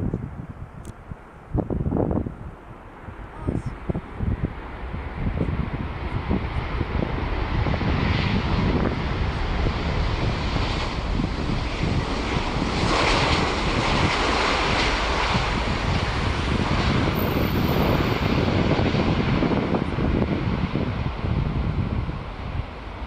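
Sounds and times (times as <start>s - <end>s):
jet engines roaring: 2.6s - 23.0s.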